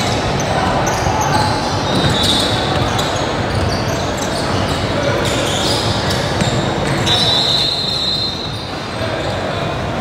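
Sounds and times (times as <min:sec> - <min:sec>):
hubbub of voices in a gym: 0:00.0 - 0:10.0.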